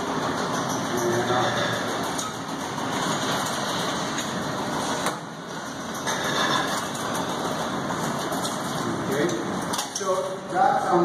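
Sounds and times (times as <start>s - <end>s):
barrier gate motor running: 0.0s - 10.4s.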